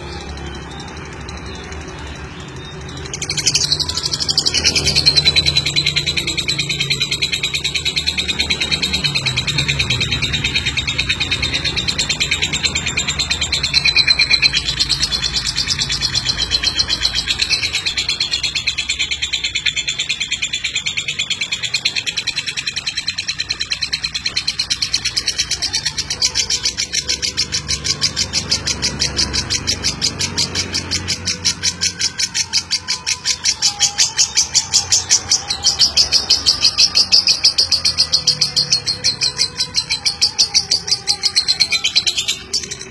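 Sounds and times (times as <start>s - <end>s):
lovebird chattering trill: 0.0s - 42.9s.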